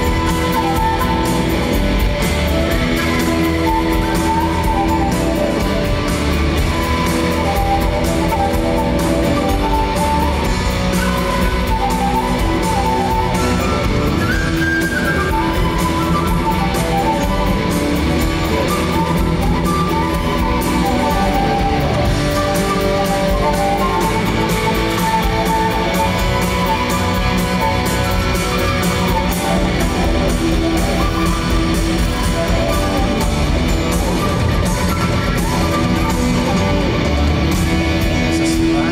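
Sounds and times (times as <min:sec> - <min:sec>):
flute melody: 0:00.0 - 0:38.9
live rock band playing: 0:00.0 - 0:38.9.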